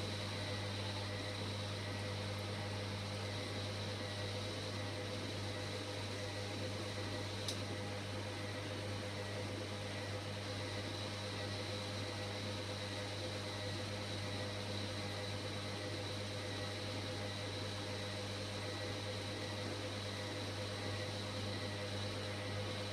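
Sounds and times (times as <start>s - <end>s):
washing machine humming: 0.0s - 22.9s.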